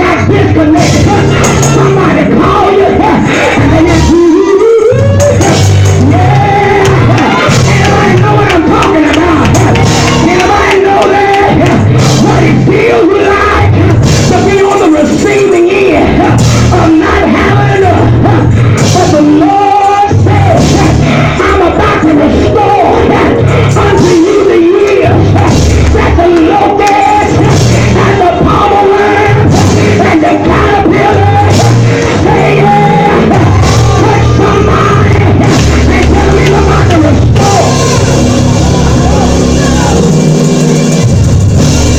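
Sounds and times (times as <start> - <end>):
gospel band music: 0.0 - 41.9
heavy steady bass: 0.0 - 41.9
people singing and shouting: 0.0 - 41.9.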